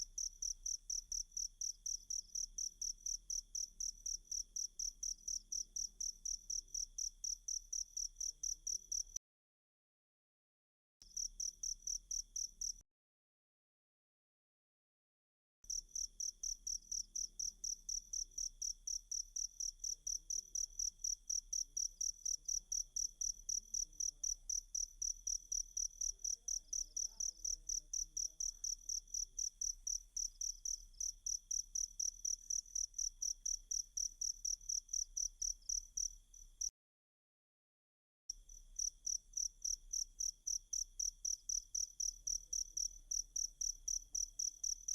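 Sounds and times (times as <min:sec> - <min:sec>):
cricket chirping: 0:00.0 - 0:09.2, 0:11.2 - 0:12.8, 0:15.7 - 0:36.7, 0:38.4 - 0:44.9.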